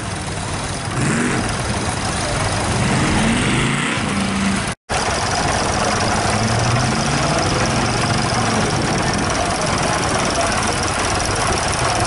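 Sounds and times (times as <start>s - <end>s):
tractor engine idling: 0.0s - 2.8s, 4.6s - 12.0s.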